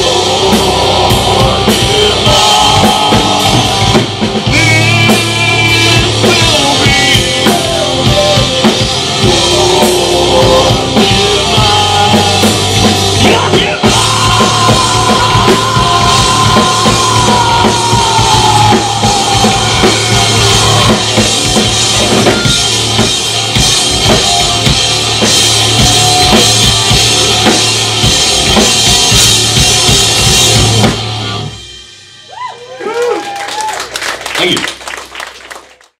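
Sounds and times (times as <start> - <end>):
electric guitars: 0.0 - 31.7
drum kit: 0.0 - 35.6.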